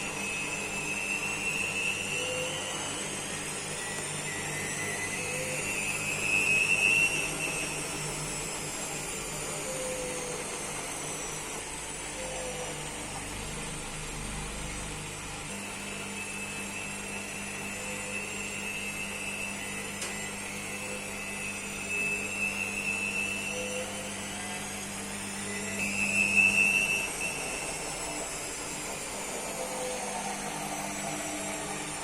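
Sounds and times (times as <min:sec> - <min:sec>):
washing machine spinning: 0:00.0 - 0:32.0.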